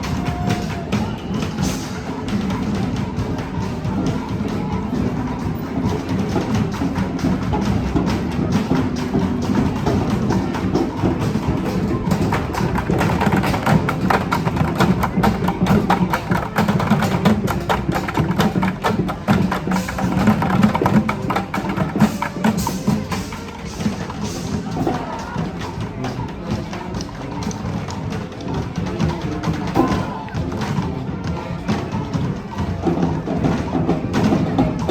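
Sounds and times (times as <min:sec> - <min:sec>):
fast drums and percussion: 0:00.0 - 0:34.9
street band playing: 0:00.0 - 0:34.9.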